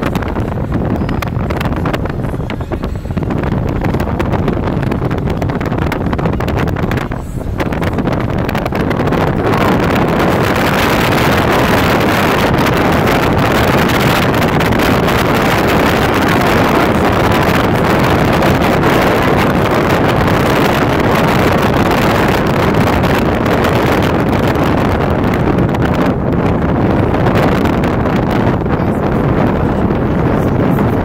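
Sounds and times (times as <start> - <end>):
wind and road noise: 0.0 - 31.0
wind buffeting microphone: 0.0 - 31.0.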